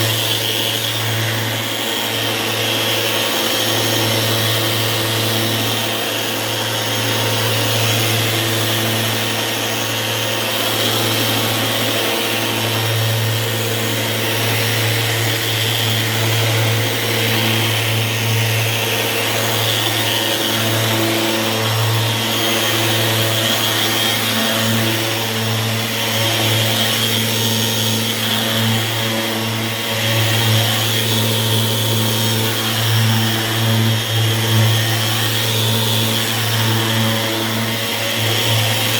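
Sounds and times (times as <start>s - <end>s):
orbital sander on countertop: 0.0s - 38.9s.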